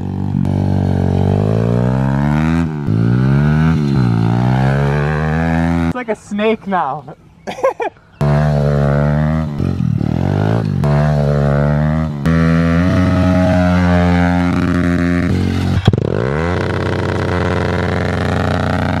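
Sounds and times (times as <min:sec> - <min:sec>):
small motorbike engine revving: 0:00.0 - 0:06.0, 0:08.2 - 0:19.0.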